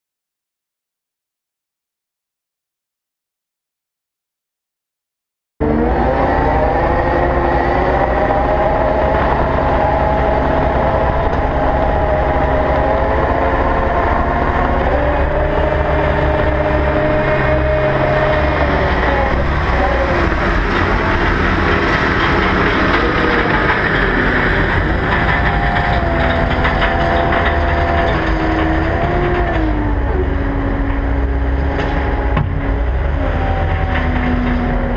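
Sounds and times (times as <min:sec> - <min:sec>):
diesel engine rumbling with whine: 0:05.6 - 0:34.9.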